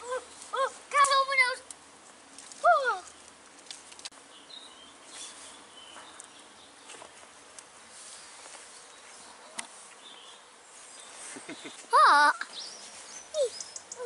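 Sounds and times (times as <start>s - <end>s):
campfire crackling and hissing: 0.0s - 14.0s.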